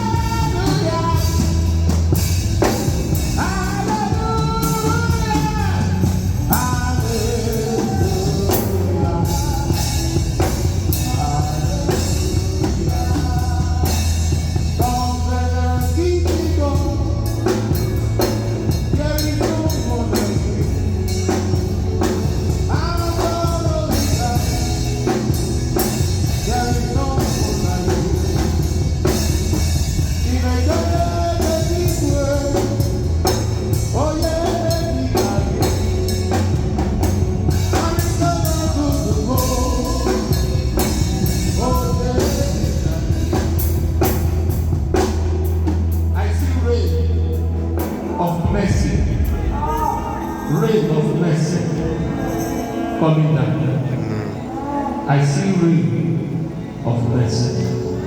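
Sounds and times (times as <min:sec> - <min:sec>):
person singing worship song: 0:00.0 - 0:01.9, 0:02.7 - 0:25.4, 0:30.0 - 0:43.8, 0:47.9 - 0:56.2
band with drum kit and bass: 0:00.0 - 0:55.1.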